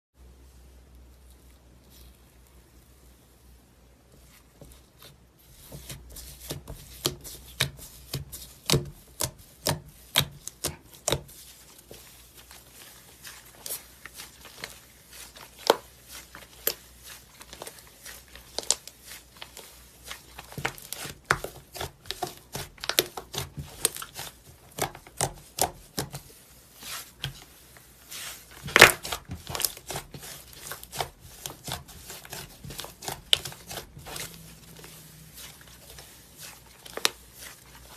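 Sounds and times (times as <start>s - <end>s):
hands squeezing slime: 5.0s - 37.9s.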